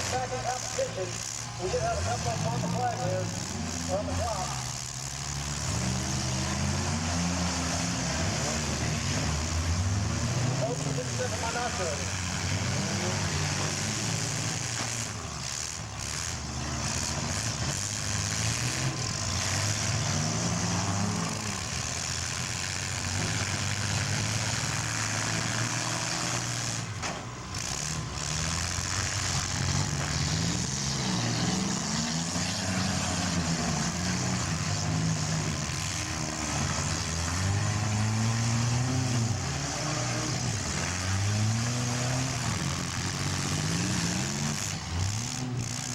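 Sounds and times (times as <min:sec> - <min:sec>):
small car engines revving: 0:00.0 - 0:45.9.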